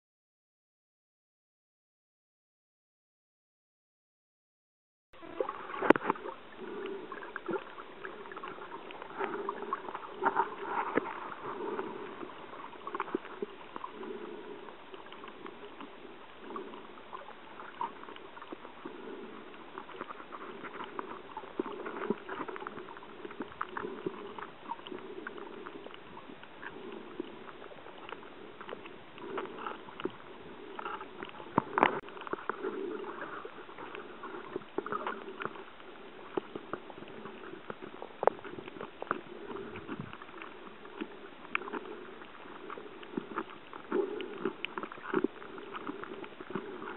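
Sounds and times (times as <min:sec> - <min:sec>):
muffled water sloshing: 0:05.2 - 0:46.9.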